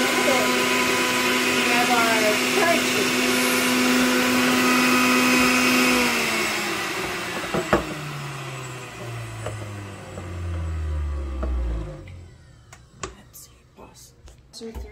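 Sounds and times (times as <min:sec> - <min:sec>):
juicer motor whirring: 0:00.0 - 0:13.4.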